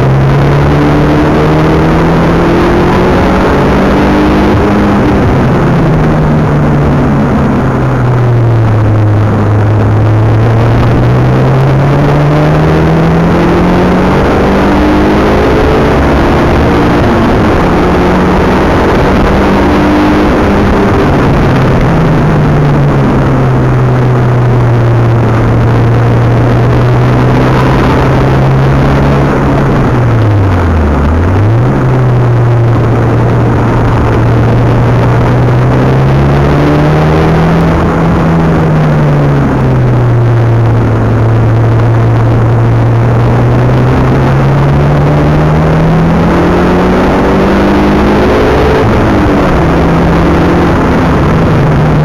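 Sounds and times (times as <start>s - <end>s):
car engine accelerating: 0.0s - 52.0s
tyre and road noise: 0.0s - 52.0s.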